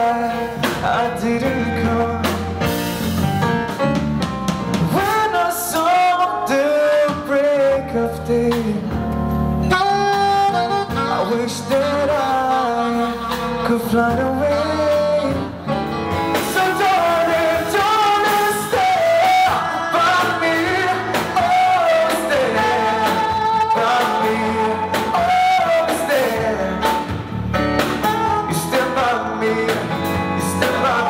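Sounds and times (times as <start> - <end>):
man singing: 0.0 - 2.8, 4.8 - 31.0
drum kit: 0.0 - 31.0.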